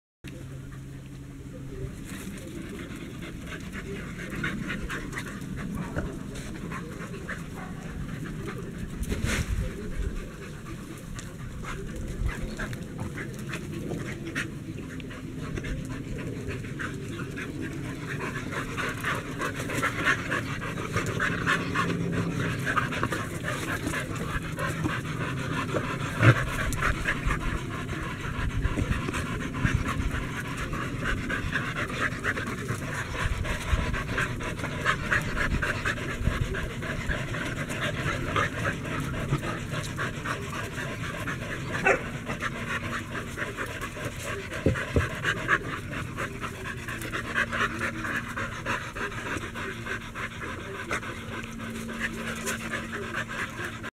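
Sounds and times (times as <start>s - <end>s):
dog panting: 1.8s - 53.9s.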